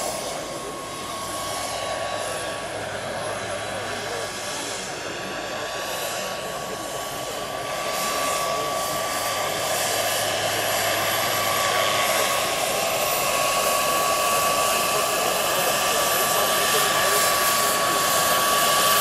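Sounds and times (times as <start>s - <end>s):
helicopter rotor noise: 0.0s - 19.0s
model helicopter turbine whine: 0.0s - 19.0s.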